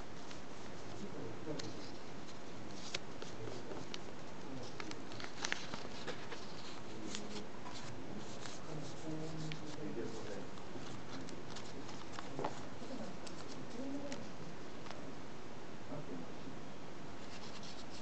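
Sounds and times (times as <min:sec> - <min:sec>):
paper rustling and crackling: 0:00.2 - 0:15.0.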